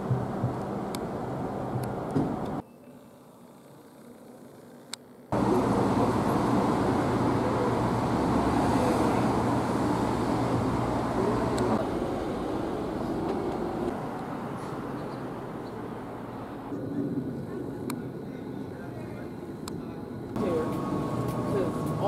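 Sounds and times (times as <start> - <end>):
city traffic noise: 0.0 - 2.6, 3.5 - 22.0.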